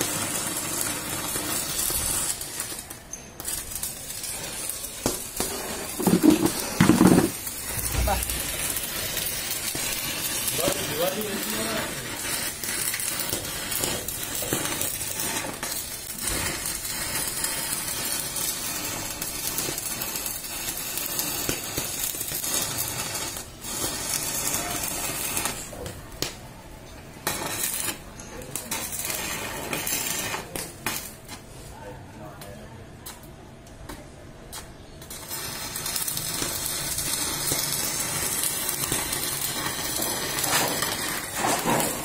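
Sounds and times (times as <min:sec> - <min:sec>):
welding arc crackling: 0:00.0 - 0:31.6, 0:33.0 - 0:42.0.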